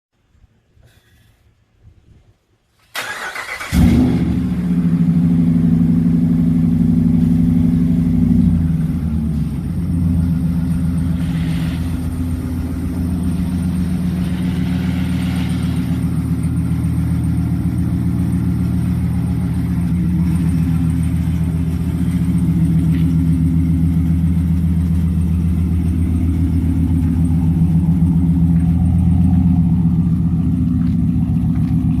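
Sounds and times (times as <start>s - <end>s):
pickup engine revving and idling: 3.4s - 32.0s.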